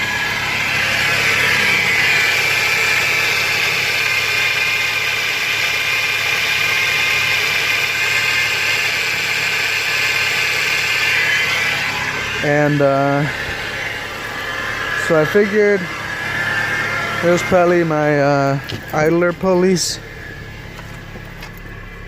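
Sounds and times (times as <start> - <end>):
car engine with belt whine: 0.0 - 22.0.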